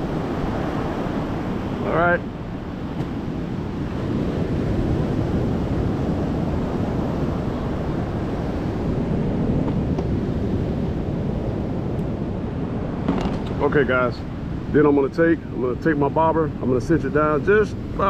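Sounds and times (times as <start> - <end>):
surf breaking on beach: 0.0 - 18.0
wind buffeting microphone: 0.0 - 18.0.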